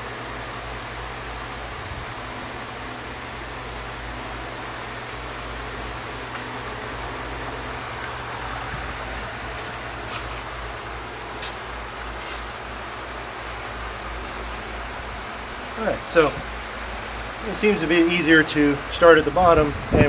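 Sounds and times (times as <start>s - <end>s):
steady mechanical hum and hiss: 0.0s - 20.0s.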